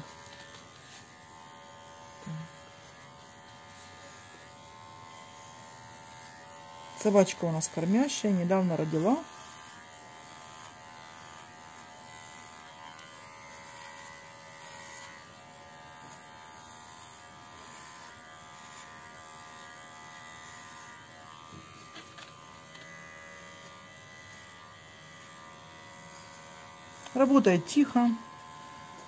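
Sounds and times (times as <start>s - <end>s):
pet hair trimmer buzzing: 0.0s - 29.0s.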